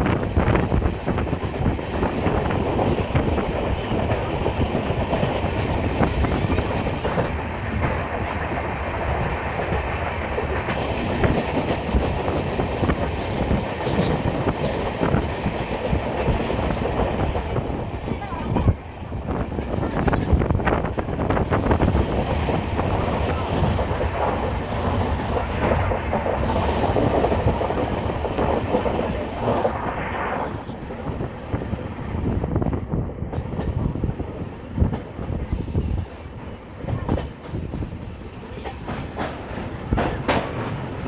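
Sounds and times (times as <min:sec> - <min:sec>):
train wheels clattering on rails: 0:00.0 - 0:29.7, 0:32.5 - 0:41.0.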